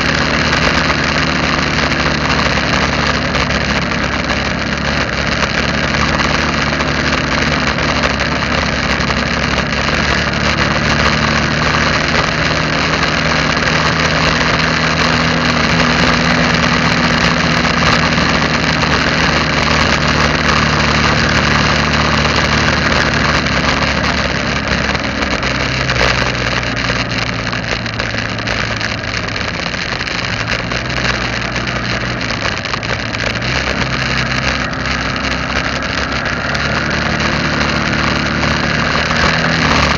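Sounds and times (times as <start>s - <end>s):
road noise hiss: 0.0s - 39.9s
vehicle engine running: 0.0s - 39.9s.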